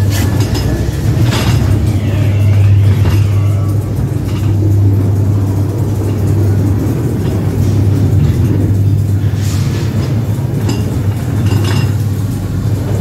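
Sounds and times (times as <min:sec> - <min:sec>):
ride car rumbling on track: 0:00.0 - 0:13.0.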